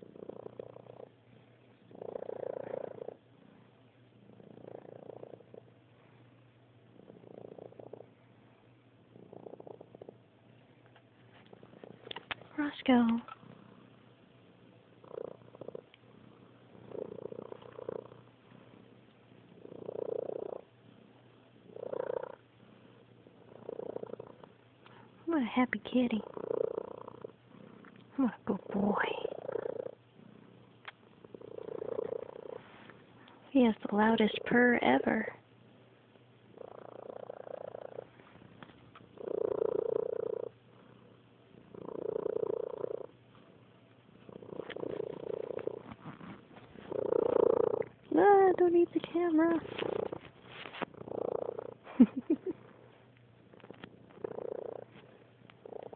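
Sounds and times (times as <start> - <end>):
cat purring loudly: 0.0 - 5.8, 6.9 - 8.3, 9.0 - 10.5, 11.4 - 25.3, 26.1 - 32.9, 36.5 - 55.9.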